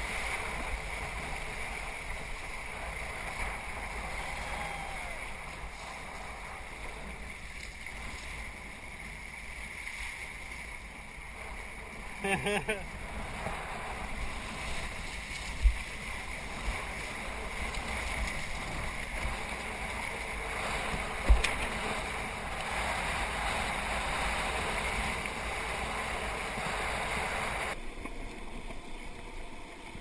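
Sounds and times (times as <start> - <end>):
water rushing and splashing: 0.0 - 30.0
wind on microphone: 0.0 - 30.0.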